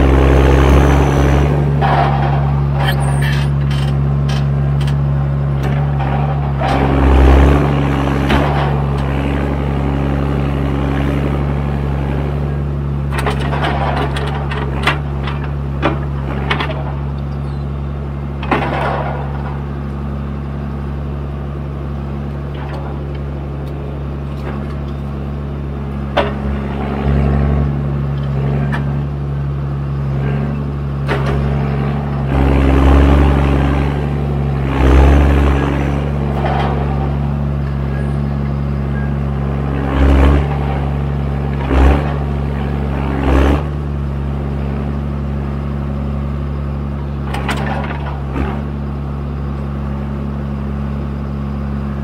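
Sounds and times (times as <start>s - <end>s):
diesel engine running: 0.0s - 52.0s
hydraulic crane working: 0.0s - 52.0s.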